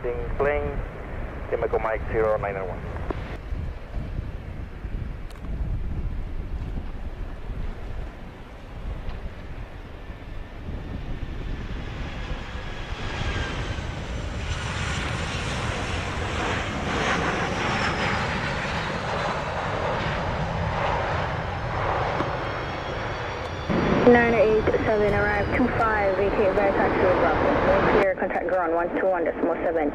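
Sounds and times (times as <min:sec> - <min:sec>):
jet engines whining: 0:00.0 - 0:29.9.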